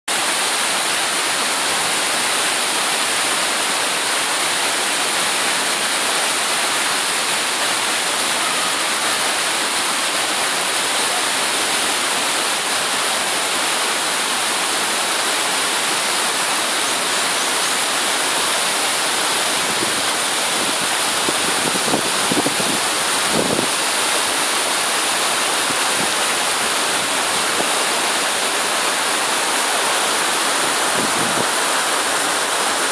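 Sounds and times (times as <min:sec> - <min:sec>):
water rushing over a weir: 0:00.1 - 0:32.9.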